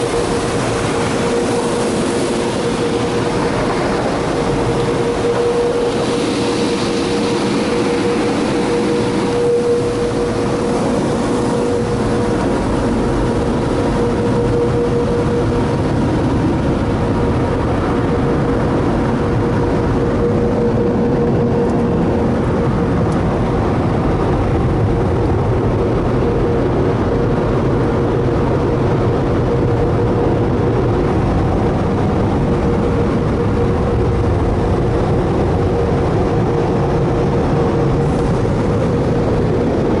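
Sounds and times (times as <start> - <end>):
car wash equipment rushing: 0.0 - 40.0
steady hum: 0.0 - 40.0.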